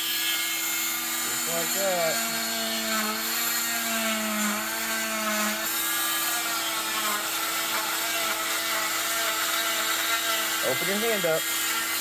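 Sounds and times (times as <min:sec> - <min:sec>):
cast saw buzzing whine: 0:00.0 - 0:12.0.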